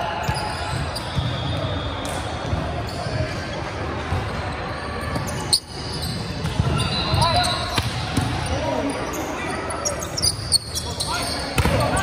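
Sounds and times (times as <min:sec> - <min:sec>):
players' voices: 0:00.0 - 0:12.0.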